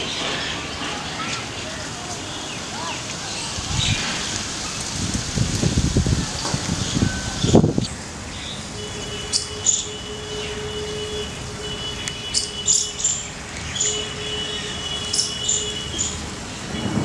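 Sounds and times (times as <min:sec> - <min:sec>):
birds chirping: 0:00.0 - 0:05.0, 0:05.6 - 0:17.0.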